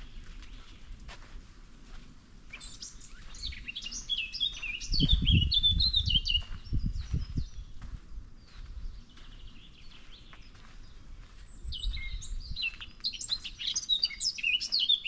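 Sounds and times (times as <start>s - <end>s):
songbird singing: 0.0s - 1.2s, 2.5s - 15.0s.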